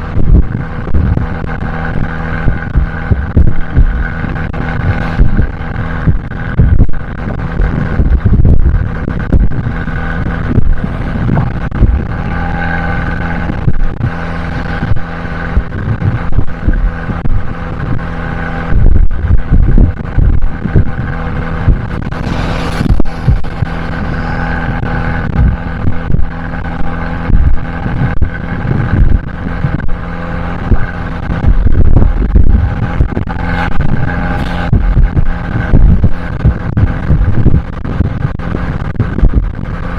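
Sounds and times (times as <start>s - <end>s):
car engine running: 0.0s - 39.9s
low thumps and rumbles: 0.0s - 39.9s.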